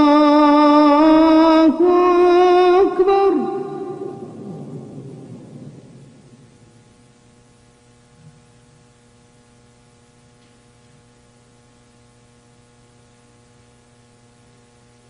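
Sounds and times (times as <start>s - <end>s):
faint electrical mains hum: 0.0s - 15.0s.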